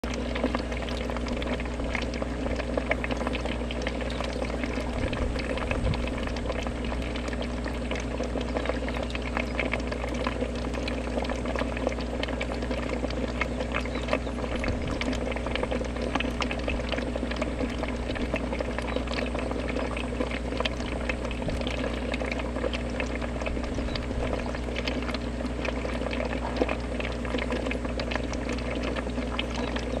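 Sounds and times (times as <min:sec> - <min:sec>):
aquarium water bubbling: 0:00.0 - 0:30.0
pump electric hum: 0:00.0 - 0:30.0.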